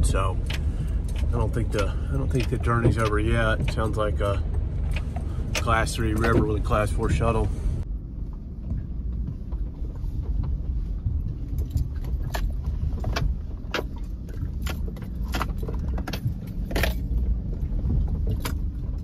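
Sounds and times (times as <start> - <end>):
loose gear clinking and rattling: 0.0 - 7.5, 9.1 - 19.0
truck engine and road rumble: 0.0 - 19.0.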